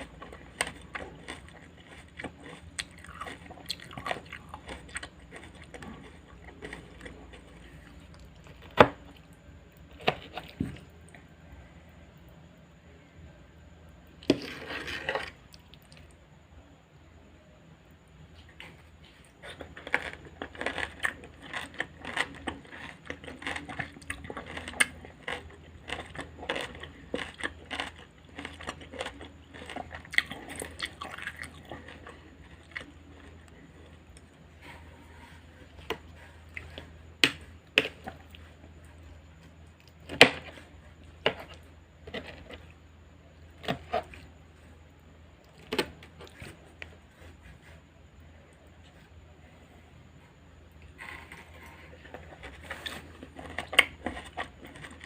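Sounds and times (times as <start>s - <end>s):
crunchy chewing of vegetables: 0.0s - 55.0s.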